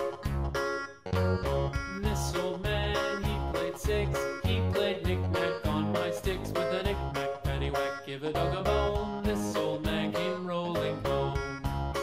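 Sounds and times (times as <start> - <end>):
cheerful music with plucked notes: 0.0 - 12.0.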